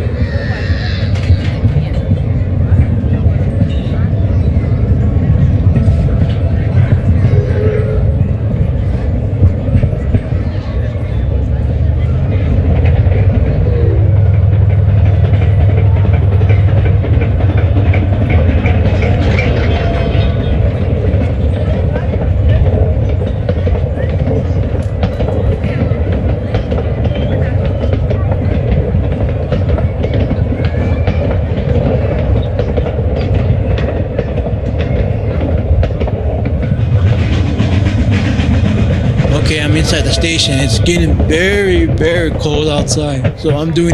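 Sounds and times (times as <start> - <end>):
train rumbling on track: 0.0 - 43.9
wheels clickety-clack over rails: 0.0 - 43.9.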